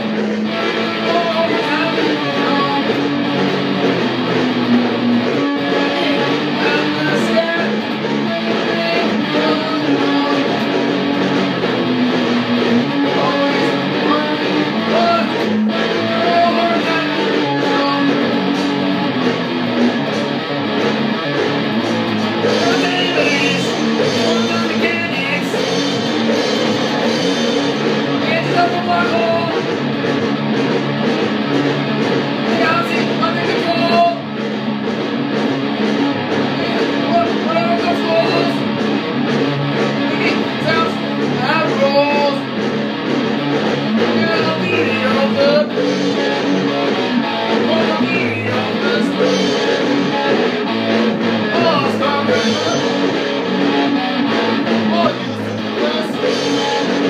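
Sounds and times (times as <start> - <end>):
rock song on guitar: 0.0 - 57.0.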